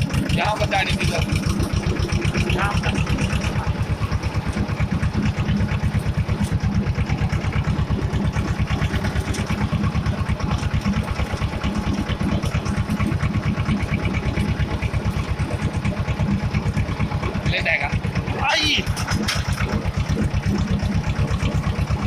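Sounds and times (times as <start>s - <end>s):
tractor diesel engine chugging: 0.0s - 22.0s.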